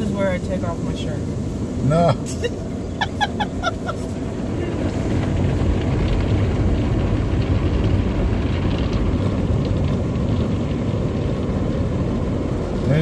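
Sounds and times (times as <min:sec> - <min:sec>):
car wash water spraying on glass: 0:00.0 - 0:13.0.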